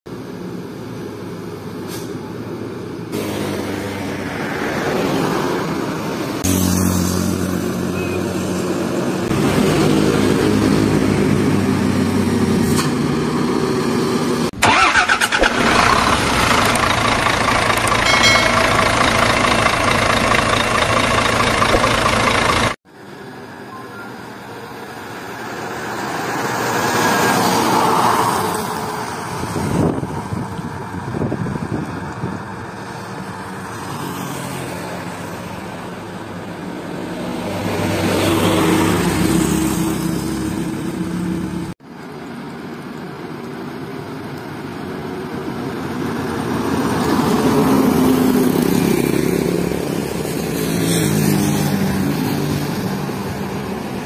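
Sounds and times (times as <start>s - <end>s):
diesel trucks driving past: 0.1s - 54.0s.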